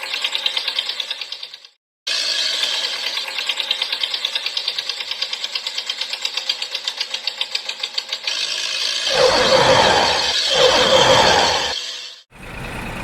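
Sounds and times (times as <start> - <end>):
small engine clattering: 0.0 - 9.9, 12.4 - 13.0.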